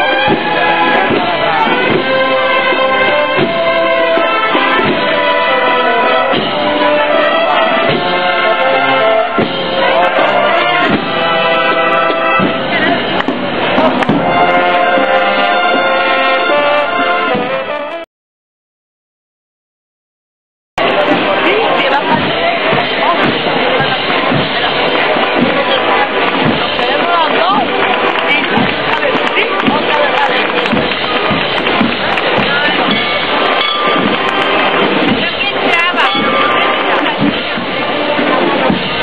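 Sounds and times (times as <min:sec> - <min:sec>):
brass and drum band march: 0:00.0 - 0:18.1, 0:20.8 - 0:39.0.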